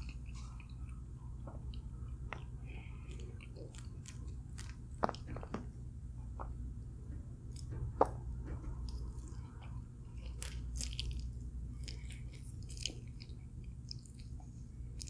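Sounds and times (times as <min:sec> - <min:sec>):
person chewing food: 0:00.0 - 0:06.6, 0:08.7 - 0:15.0
low room hum: 0:00.0 - 0:15.0.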